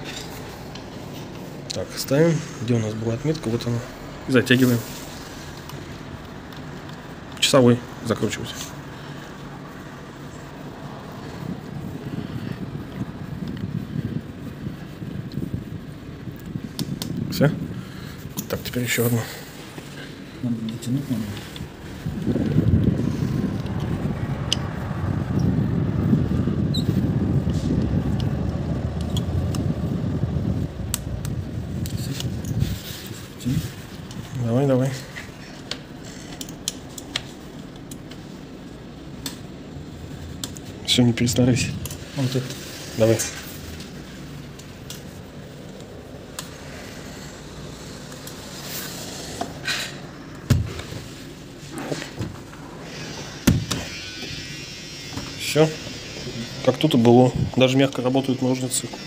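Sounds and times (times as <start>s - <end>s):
steady low rumble: 0.0s - 53.4s.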